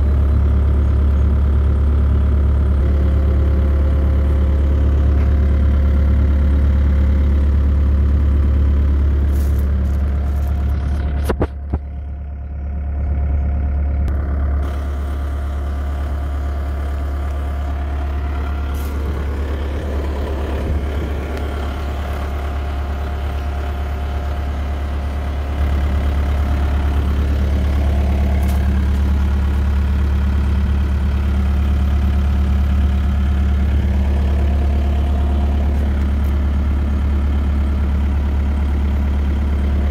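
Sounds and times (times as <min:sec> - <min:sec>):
diesel excavator engine idling: 0:00.0 - 0:39.9.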